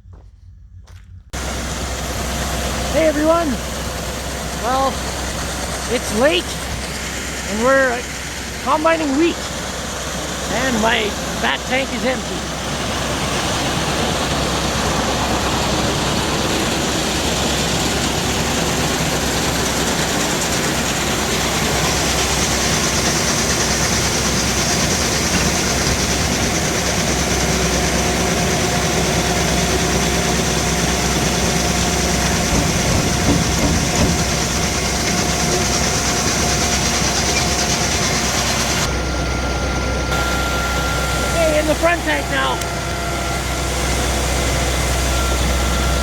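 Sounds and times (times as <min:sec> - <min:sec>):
steady machine whine: 0:00.0 - 0:46.0
combine harvester running: 0:00.1 - 0:46.0.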